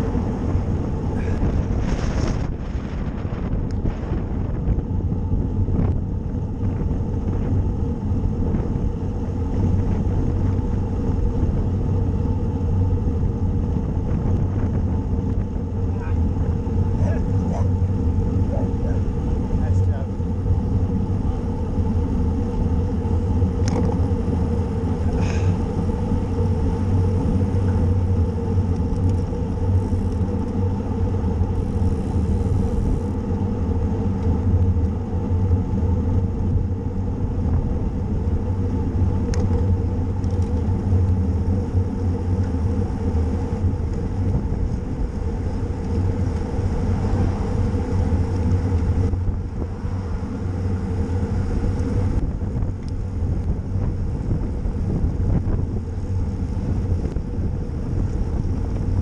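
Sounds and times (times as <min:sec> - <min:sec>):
bicycle tyre noise: 0:00.0 - 0:59.0
wind buffeting microphone: 0:00.0 - 0:59.0.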